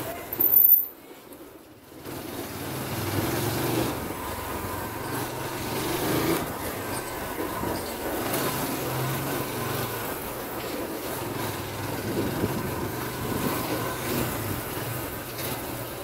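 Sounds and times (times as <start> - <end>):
rush of riding noise: 1.4 - 16.0
small motorcycle engine running: 1.9 - 16.0.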